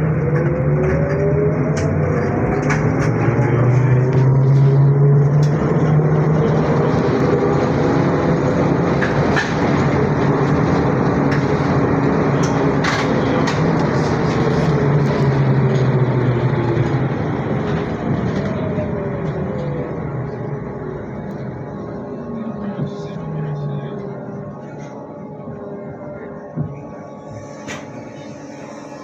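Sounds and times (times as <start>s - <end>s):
trolleybus motor whine: 0.0s - 29.0s.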